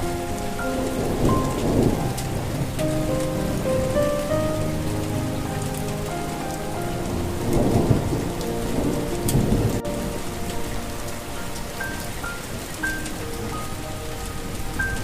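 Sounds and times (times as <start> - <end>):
soft melody of held notes: 0.0 - 15.0
steady rain falling: 0.0 - 15.0
thunder rumbles: 0.0 - 15.0.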